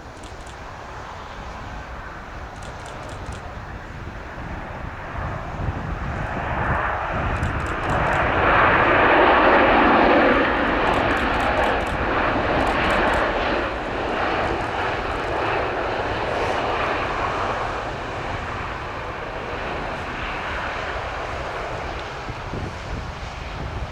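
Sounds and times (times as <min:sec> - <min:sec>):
airplane engines passing: 0:00.0 - 0:23.9.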